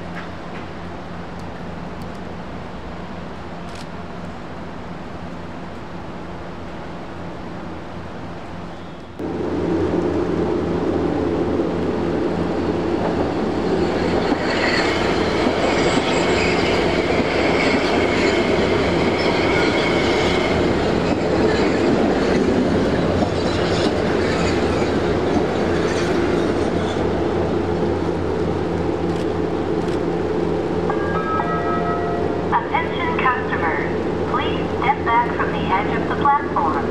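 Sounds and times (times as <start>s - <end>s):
train passing with wheel clatter: 0.0s - 36.9s.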